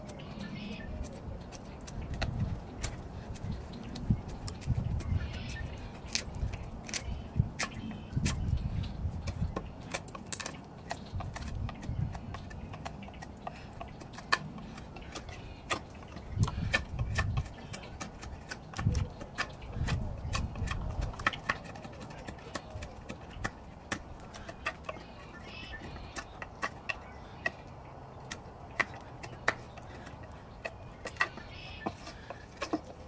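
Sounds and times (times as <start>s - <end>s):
knife whittling wood: 0.0s - 33.0s.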